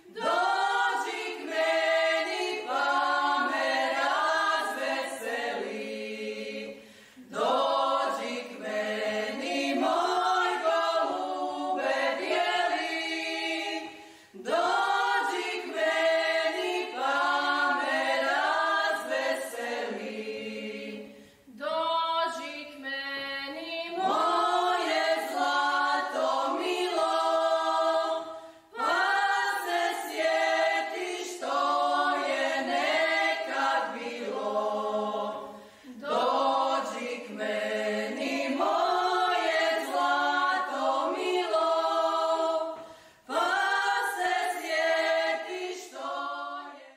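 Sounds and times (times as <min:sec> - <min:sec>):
group singing a cappella: 0:00.0 - 0:46.9.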